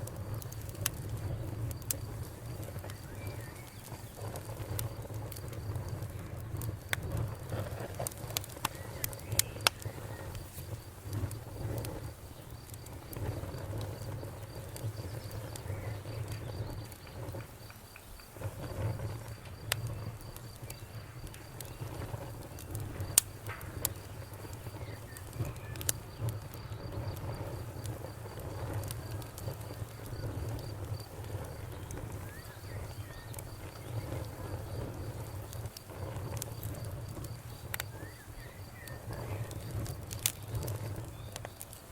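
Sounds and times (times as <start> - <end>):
low fluttering rumble: 0.0 - 41.7
campfire crackling and popping: 0.0 - 41.9
crickets trilling: 0.0 - 41.9.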